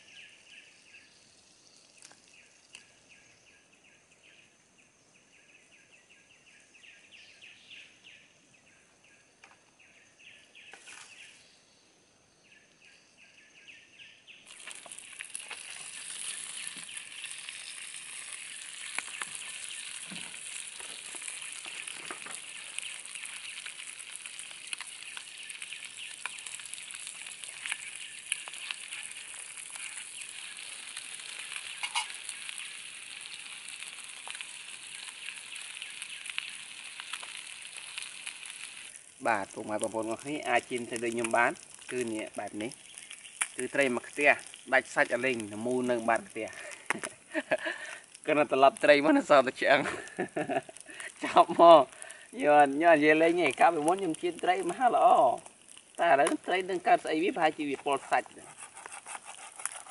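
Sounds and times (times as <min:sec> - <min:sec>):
food sizzling in hot oil: 0:00.0 - 0:03.5, 0:14.4 - 0:59.9.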